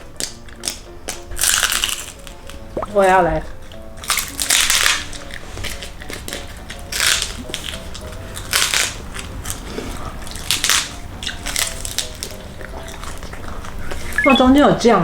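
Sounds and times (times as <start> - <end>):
crunchy chewing: 0.0 - 2.8, 3.5 - 14.2
faint background music: 0.0 - 15.0.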